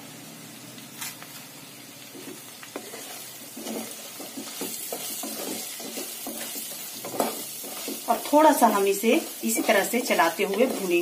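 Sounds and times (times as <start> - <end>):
potatoes sizzling in oil: 0.0 - 11.0
wooden spatula stirring: 2.2 - 11.0.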